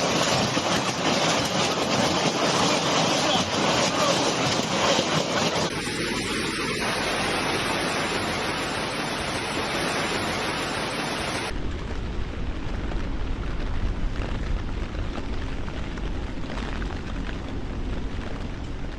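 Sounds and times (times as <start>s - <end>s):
hail and rain pelting: 0.0s - 18.9s
low storm rumble: 0.0s - 18.9s.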